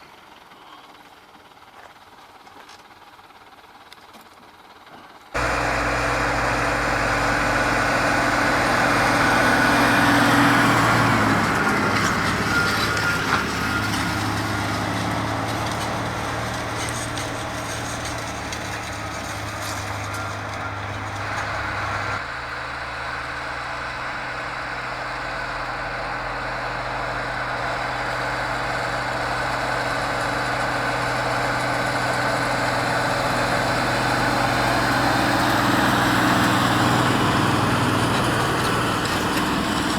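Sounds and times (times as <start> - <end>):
tractor engine running: 5.4 - 39.9.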